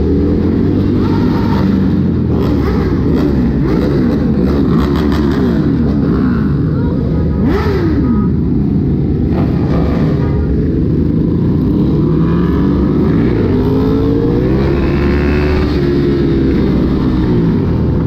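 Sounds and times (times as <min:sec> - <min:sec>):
motorbike engines revving: 0:00.0 - 0:18.0.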